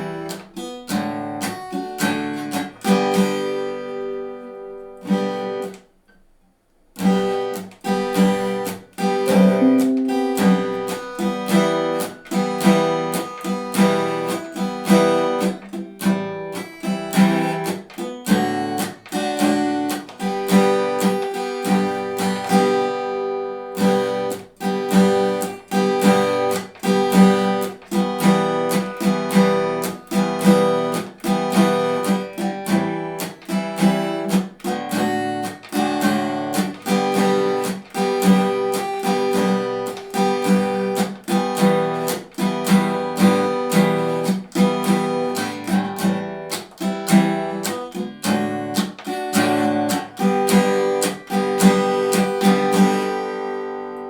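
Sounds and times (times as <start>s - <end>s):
guitar strumming chords: 7.3s - 54.0s.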